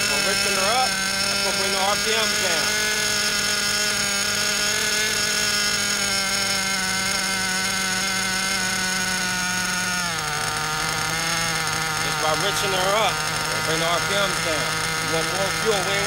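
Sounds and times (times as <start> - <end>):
model engine buzzing: 0.0 - 16.0.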